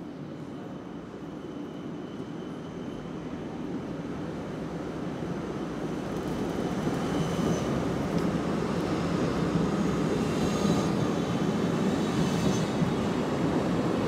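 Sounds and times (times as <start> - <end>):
tram wheels on rails: 0.0 - 14.0.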